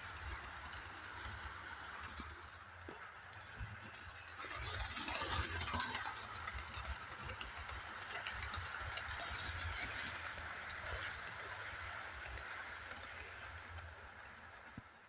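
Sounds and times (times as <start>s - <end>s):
model train wheels rattling: 0.0s - 15.0s.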